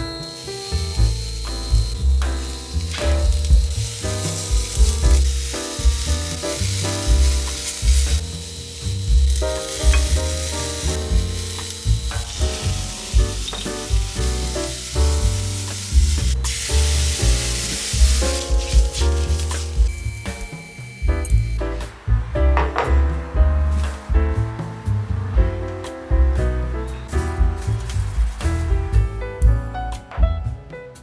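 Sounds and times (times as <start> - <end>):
food sizzling in a pan: 0.0 - 28.9
music with pulsing bass beat: 0.8 - 29.7.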